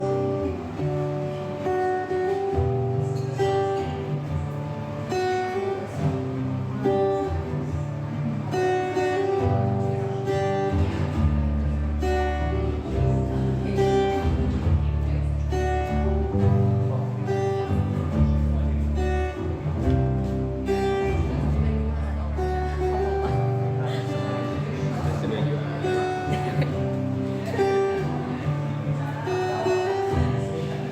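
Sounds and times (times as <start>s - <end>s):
acoustic guitar playing: 0.0s - 30.9s.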